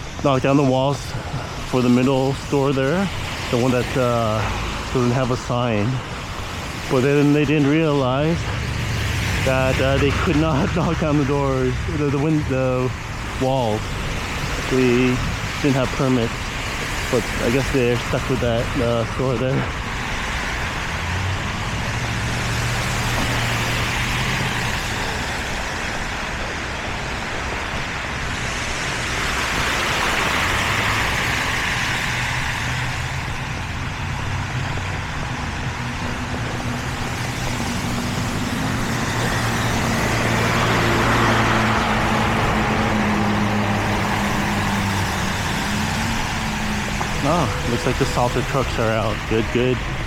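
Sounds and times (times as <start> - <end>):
heavy vehicle hum: 0.0 - 50.0
low engine hum: 0.0 - 50.0
tyres hissing on wet snow: 0.0 - 50.0.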